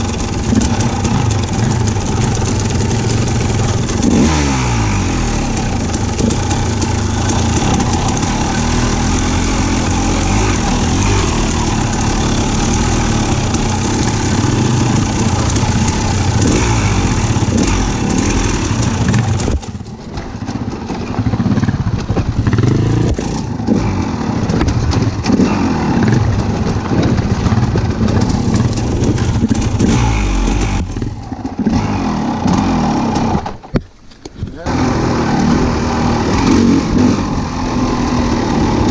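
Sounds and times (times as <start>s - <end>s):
engine revving: 0.0s - 19.7s, 20.4s - 33.6s, 34.6s - 38.9s.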